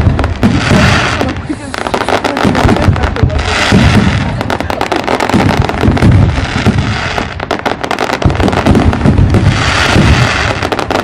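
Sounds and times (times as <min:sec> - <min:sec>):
fireworks cracking and crackling: 0:00.0 - 0:11.0
fireworks deep booms: 0:00.0 - 0:11.0.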